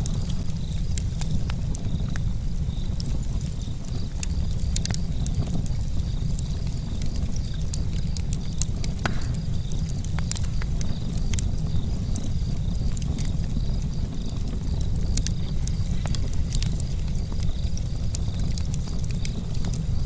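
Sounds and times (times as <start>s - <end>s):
charcoal fire crackling: 0.0s - 20.0s
fire popping: 0.0s - 20.0s.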